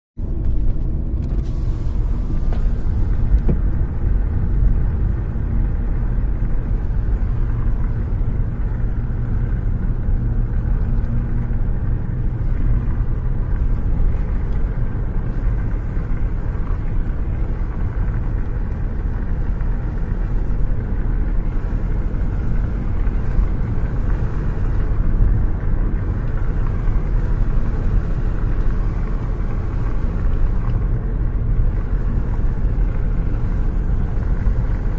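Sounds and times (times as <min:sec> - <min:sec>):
wind and road noise: 0:00.2 - 0:34.9.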